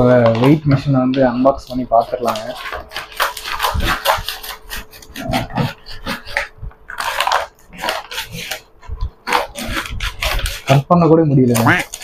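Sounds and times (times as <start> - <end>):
paper bag crinkling and tearing: 0.0 - 12.0.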